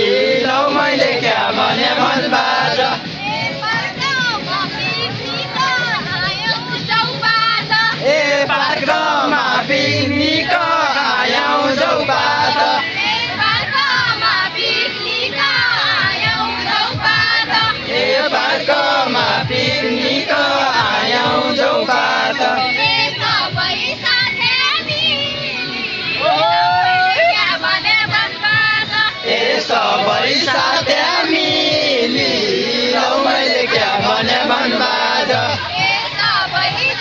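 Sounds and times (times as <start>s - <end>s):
voices singing together: 0.0s - 37.0s.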